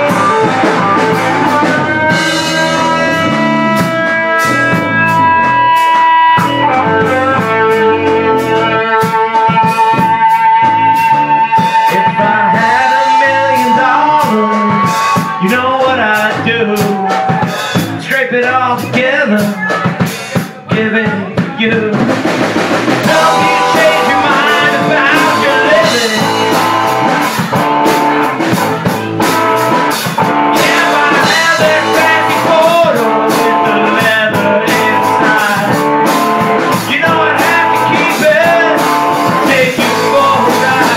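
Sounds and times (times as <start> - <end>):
held electric guitar note bending: 0.0 - 15.2, 23.0 - 40.9
live rock band playing: 0.0 - 40.9.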